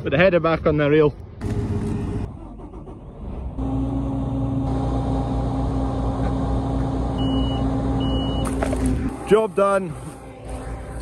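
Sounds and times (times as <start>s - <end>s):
combine harvester diesel engine running: 1.4s - 11.0s.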